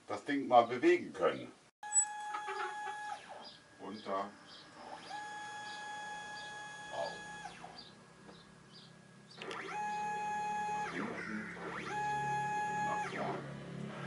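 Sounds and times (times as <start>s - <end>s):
stepper motors whining: 1.8s - 14.0s.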